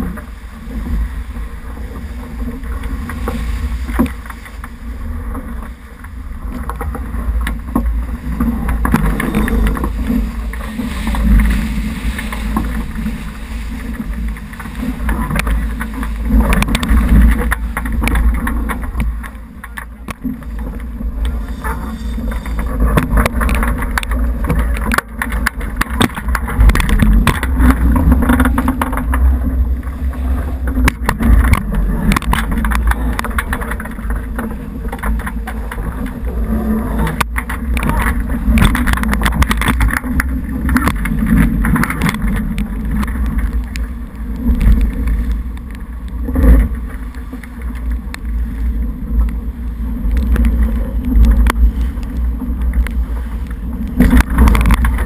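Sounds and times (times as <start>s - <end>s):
water rushing along boat hull: 0.0s - 55.0s
wind rumble on microphone: 0.0s - 55.0s.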